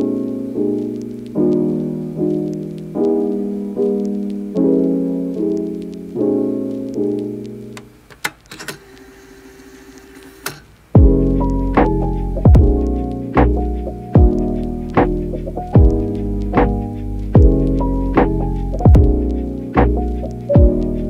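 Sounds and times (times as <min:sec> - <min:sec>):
piano chords: 0:00.0 - 0:08.1, 0:10.9 - 0:21.0.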